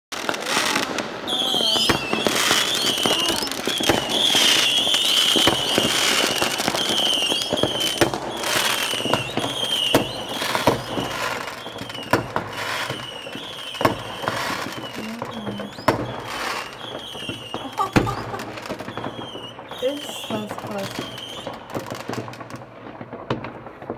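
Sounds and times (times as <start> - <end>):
crackling bursts: 0.1 - 23.9
fireworks banging: 0.1 - 23.9.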